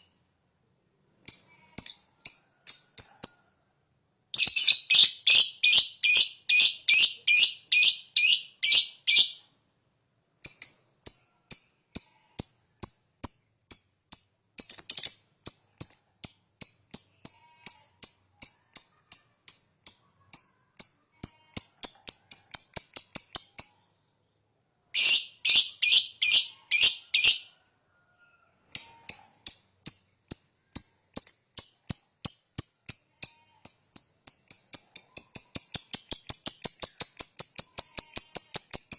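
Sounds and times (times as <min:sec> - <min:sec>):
lovebird chirping: 0:01.3 - 0:03.5, 0:04.3 - 0:09.5, 0:10.4 - 0:24.4, 0:25.0 - 0:27.6, 0:28.7 - 0:38.9.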